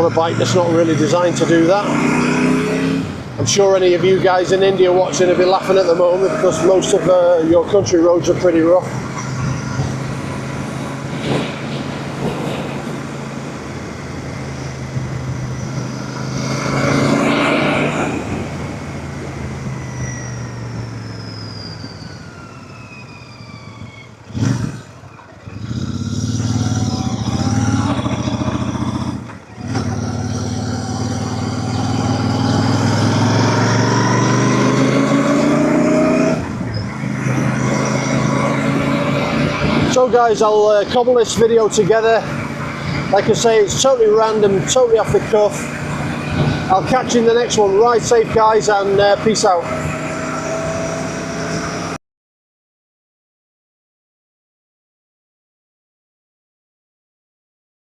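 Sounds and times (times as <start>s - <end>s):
motorcycle engine under way: 0.0s - 52.0s.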